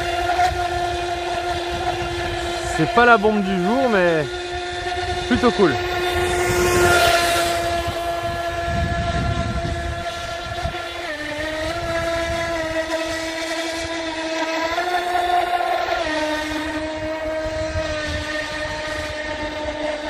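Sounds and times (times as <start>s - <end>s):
rc speedboat motor whine: 0.0s - 20.0s.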